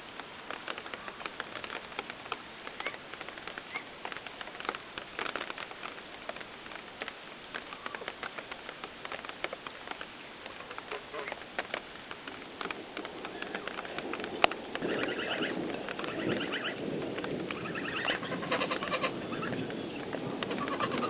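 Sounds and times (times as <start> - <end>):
small animals scrabbling: 0.5 - 21.0.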